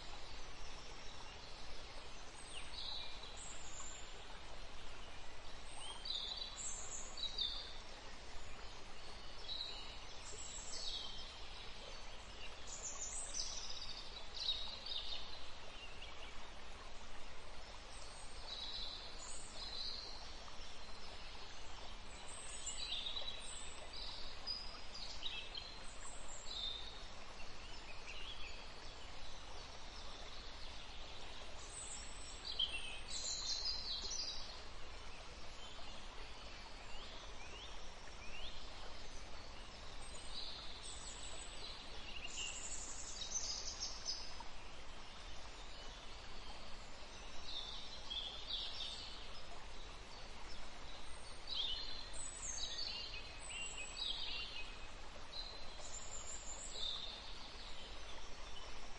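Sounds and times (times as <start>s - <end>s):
low forest hiss: 0.0s - 58.9s
small songbirds chirping: 0.0s - 58.9s.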